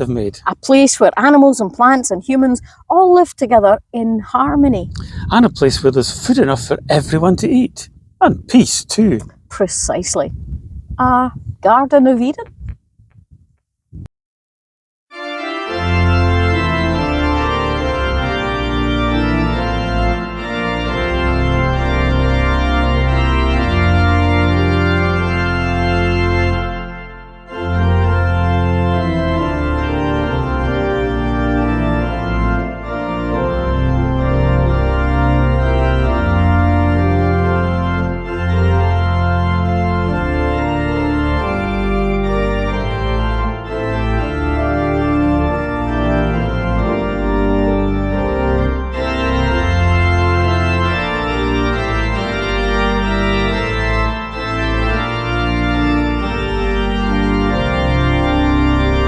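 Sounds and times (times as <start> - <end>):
organ music: 5.2 - 9.2, 15.1 - 59.0.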